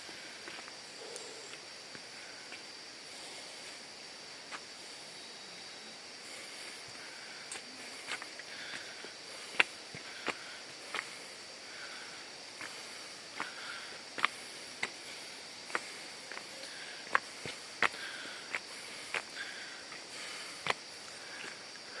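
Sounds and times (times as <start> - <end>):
even hiss: 0.0 - 22.0
insects droning: 0.0 - 22.0.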